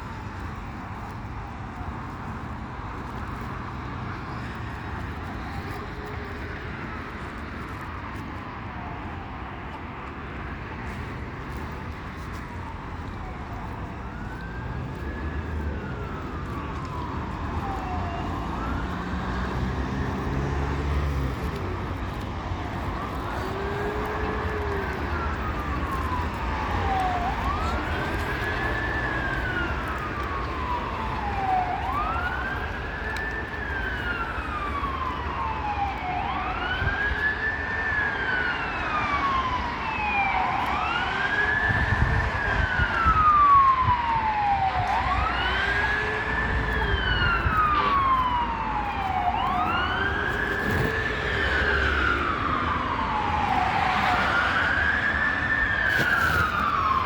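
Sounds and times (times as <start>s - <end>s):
city traffic: 0.0s - 57.0s
emergency siren wailing: 0.0s - 57.0s.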